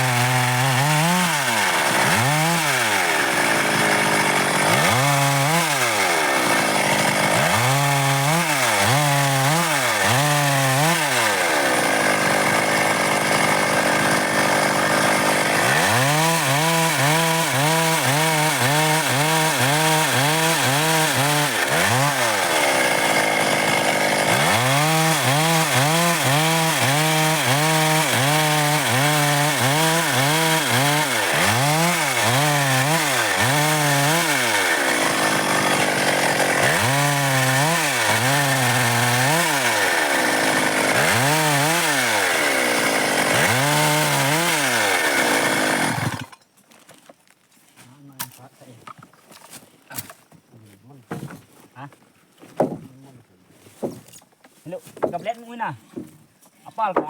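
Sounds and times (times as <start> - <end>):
chainsaw cutting wood: 0.0 - 46.5.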